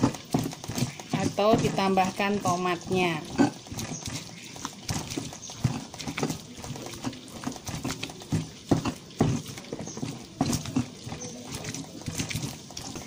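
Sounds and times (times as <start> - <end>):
stone pestle grinding in mortar: 0.0 - 13.0.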